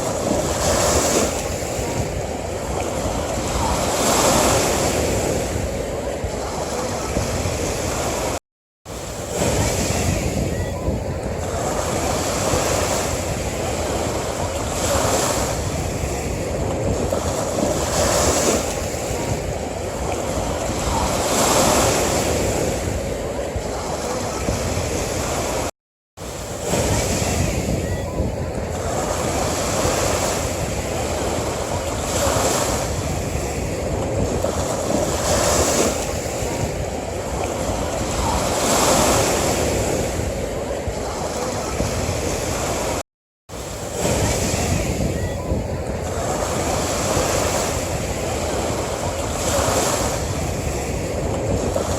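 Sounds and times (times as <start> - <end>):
ocean surf washing onto beach: 0.0 - 51.9.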